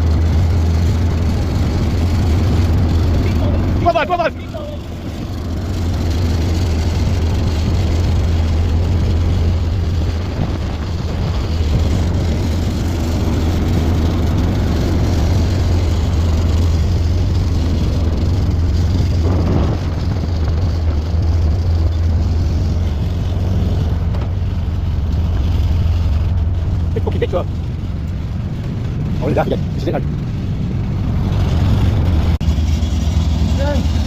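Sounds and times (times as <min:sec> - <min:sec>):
engine low drone: 0:00.0 - 0:34.0.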